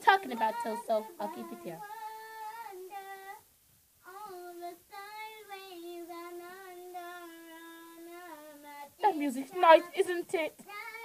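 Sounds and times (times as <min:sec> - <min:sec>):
girl singing wordless tune: 0:00.0 - 0:11.0.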